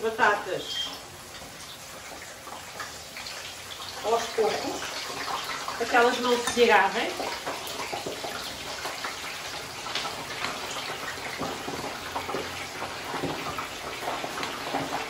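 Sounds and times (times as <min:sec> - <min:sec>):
potatoes frying in oil: 0:00.0 - 0:15.0.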